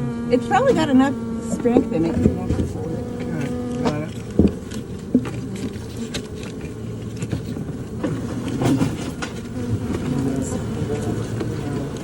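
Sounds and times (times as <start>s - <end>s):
honey bees buzzing: 0.0s - 12.0s
beehive frames clicking and knocking: 1.5s - 12.0s.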